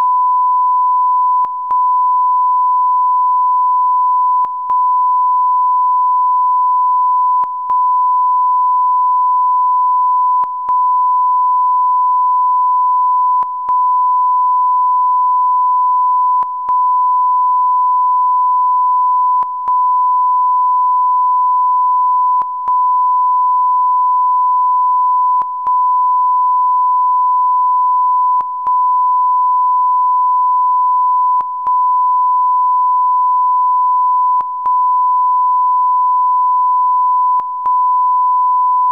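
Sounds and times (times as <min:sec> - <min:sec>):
sine test tone: 0:00.0 - 0:38.9.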